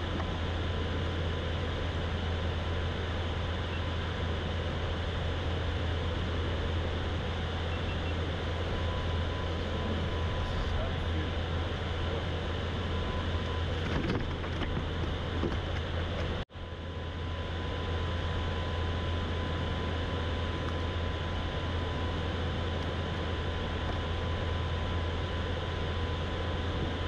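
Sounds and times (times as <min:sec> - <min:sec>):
faint steady whine: 0:00.0 - 0:27.0.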